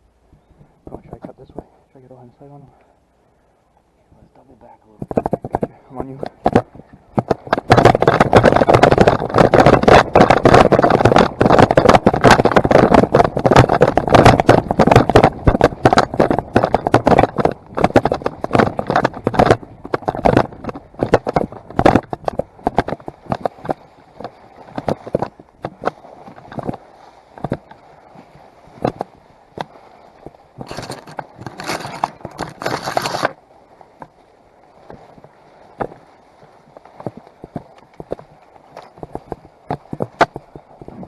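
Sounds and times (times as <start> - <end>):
brush rustling and scraping: 4.6 - 41.0.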